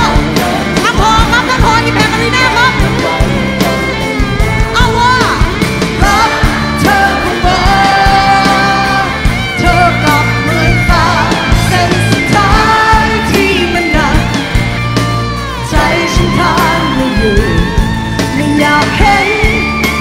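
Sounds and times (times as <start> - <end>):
woman singing: 0.0 - 3.9, 4.6 - 14.8, 15.5 - 20.0
rock band playing: 0.0 - 20.0.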